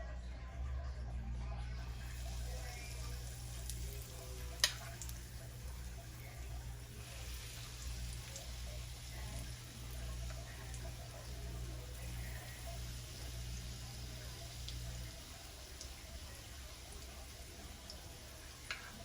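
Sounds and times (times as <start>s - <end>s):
low steady hum: 0.0s - 19.0s
fritters sizzling in oil: 1.8s - 19.0s.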